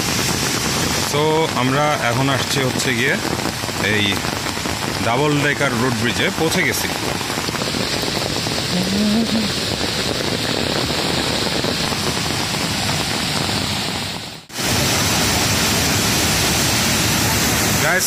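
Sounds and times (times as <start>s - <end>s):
rain falling: 0.0s - 18.0s
river rushing: 0.0s - 18.0s.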